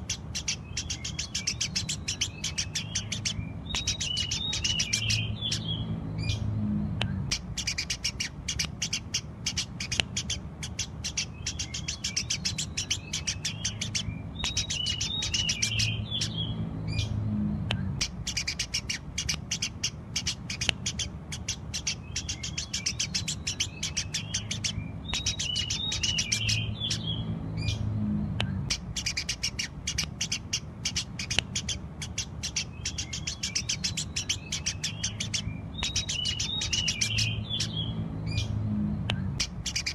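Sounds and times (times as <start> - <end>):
low steady hum: 0.0 - 39.9
sparrows chirping: 0.0 - 39.9.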